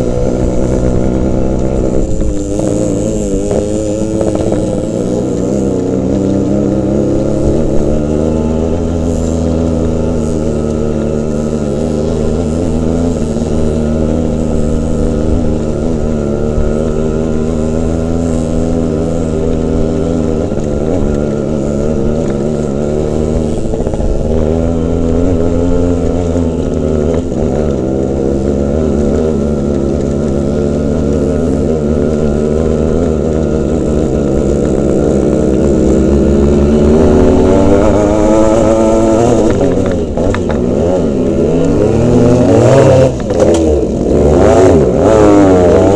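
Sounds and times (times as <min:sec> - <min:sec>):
motorcycle engine on gravel: 0:00.0 - 0:45.9.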